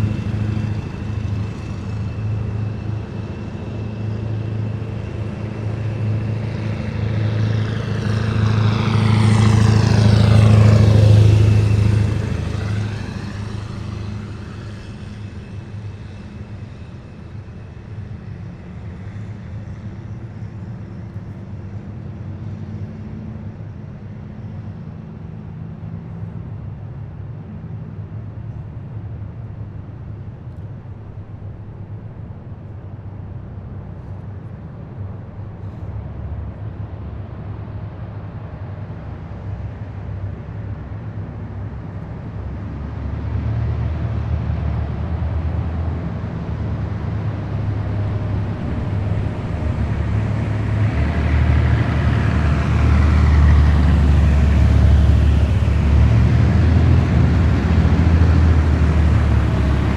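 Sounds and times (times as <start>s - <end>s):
heavy vehicles driving past: 0.0s - 23.3s, 29.0s - 59.9s.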